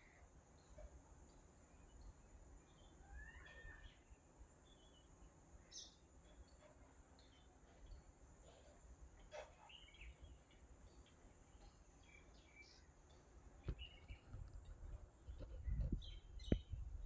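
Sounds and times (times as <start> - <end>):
faint bird chirps: 0.0 - 17.0
low background noise: 0.0 - 17.0.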